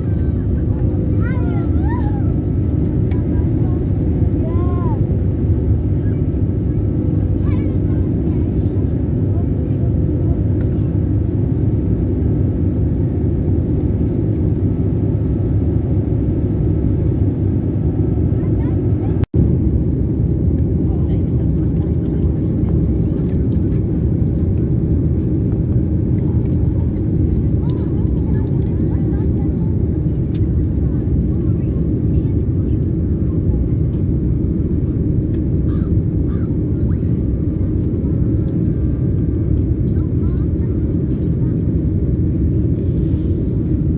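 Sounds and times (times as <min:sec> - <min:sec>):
jet engine rumble: 0:00.0 - 0:43.9.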